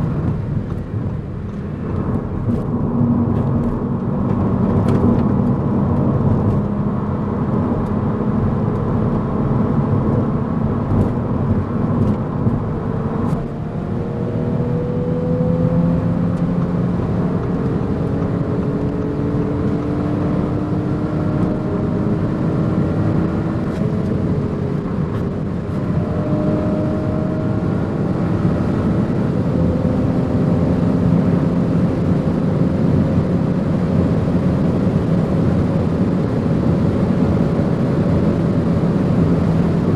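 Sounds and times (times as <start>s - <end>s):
car engine accelerating: 0.0s - 39.9s
wind and tyre noise: 0.0s - 39.9s.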